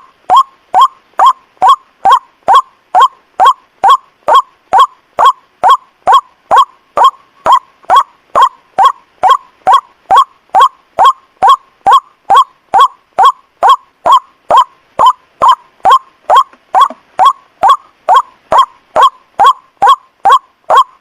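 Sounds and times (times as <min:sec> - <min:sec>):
waterhen calls: 0:00.0 - 0:21.0.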